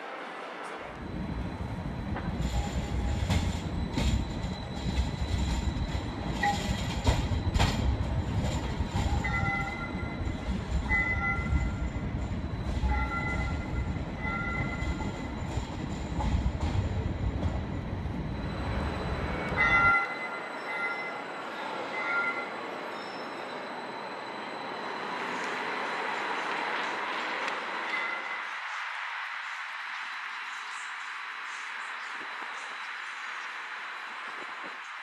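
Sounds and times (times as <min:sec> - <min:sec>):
streetcar rumbling past: 0:00.0 - 0:28.8.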